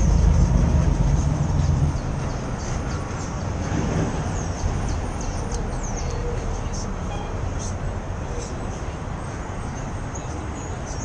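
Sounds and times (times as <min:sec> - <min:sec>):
street background: 0:00.0 - 0:11.0
street traffic rumble: 0:00.0 - 0:11.0.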